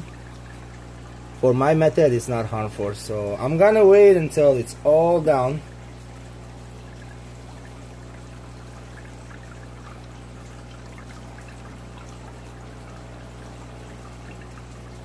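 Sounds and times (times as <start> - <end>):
steady low hum: 0.0 - 15.0
water trickling through a filter: 0.0 - 15.0.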